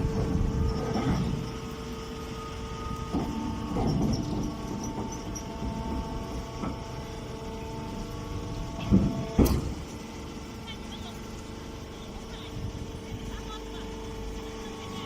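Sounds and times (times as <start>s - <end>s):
baling machine running: 0.0s - 15.0s.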